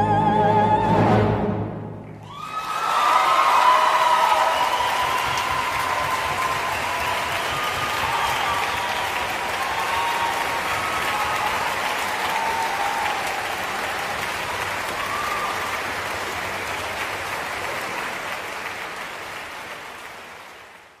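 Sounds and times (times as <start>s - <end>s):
audience applauding: 2.2s - 21.0s.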